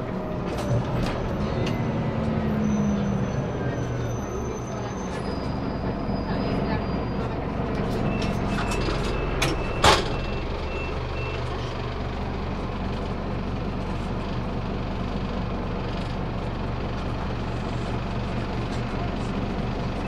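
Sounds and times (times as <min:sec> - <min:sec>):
bus diesel engine idling: 0:00.0 - 0:20.0.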